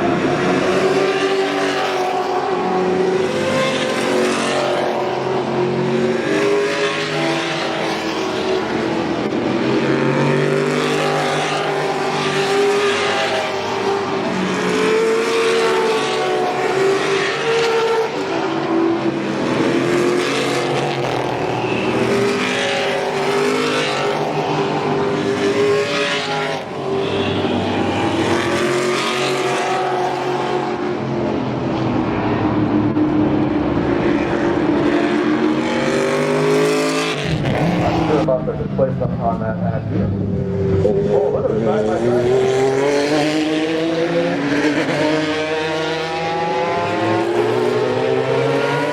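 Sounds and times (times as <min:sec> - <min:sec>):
race car engines passing: 0:00.0 - 0:48.9.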